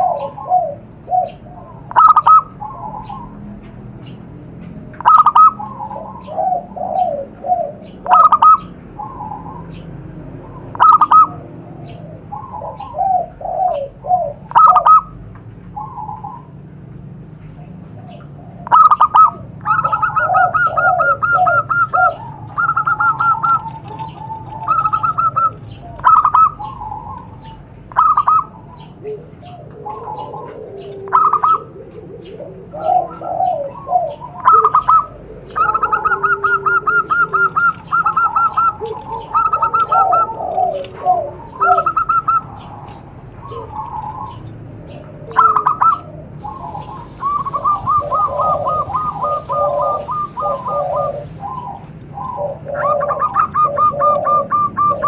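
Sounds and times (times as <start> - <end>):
doves cooing: 0.0 - 4.1, 4.8 - 15.2, 15.8 - 16.6, 17.6 - 55.0.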